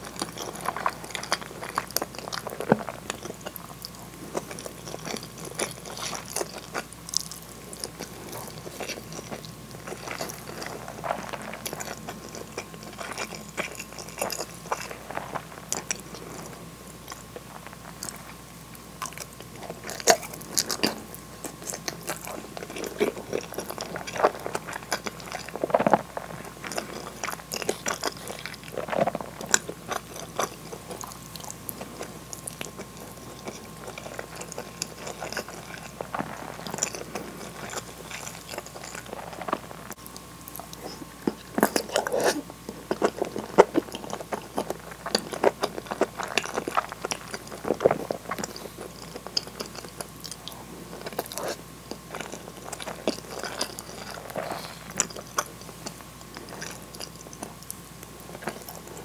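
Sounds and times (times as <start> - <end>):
faint steady hum: 0.0 - 59.0
wet chewing and smacking: 0.0 - 59.0.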